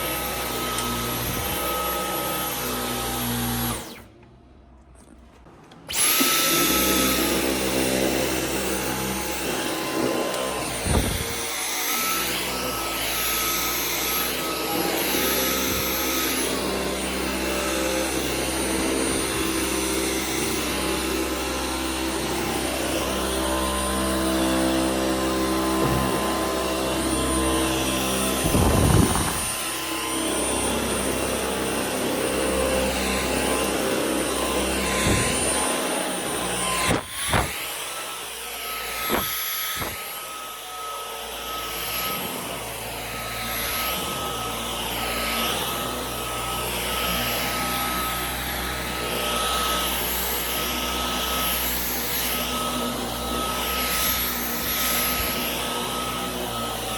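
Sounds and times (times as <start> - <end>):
vacuum cleaner motor whine: 0.0 - 4.2, 5.9 - 56.9.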